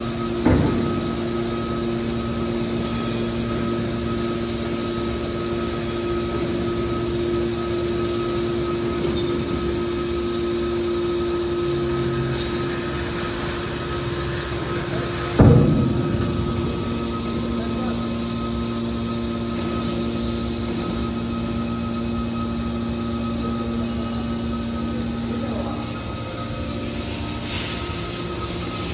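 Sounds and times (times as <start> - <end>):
hydraulic machine humming: 0.0 - 28.9
noisy background: 0.0 - 28.9.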